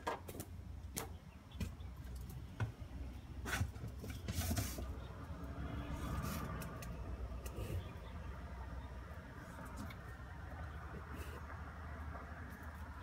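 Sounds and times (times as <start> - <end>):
low outdoor rumble: 0.3 - 13.0.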